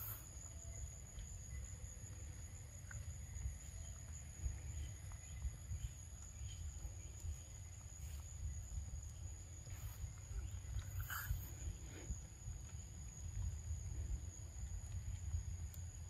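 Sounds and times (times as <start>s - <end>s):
faint ticks and chirps: 0.0s - 16.0s.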